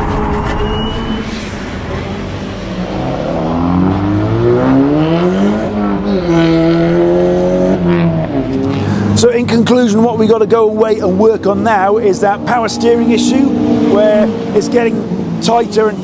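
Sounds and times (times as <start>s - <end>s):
tyre and road noise: 0.0s - 16.0s.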